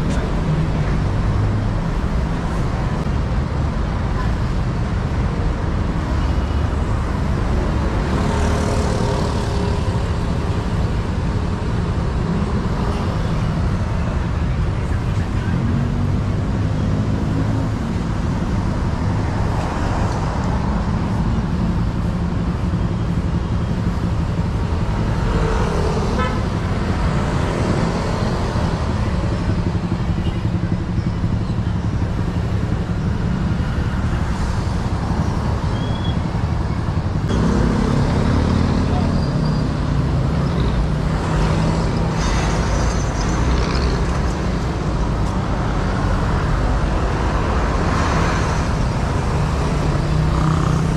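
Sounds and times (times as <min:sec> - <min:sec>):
traffic engines humming: 0:00.0 - 0:50.9.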